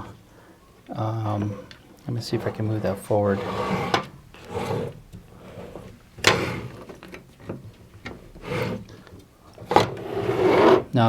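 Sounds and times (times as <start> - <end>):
cables rubbing and clunking: 0.0 - 11.0.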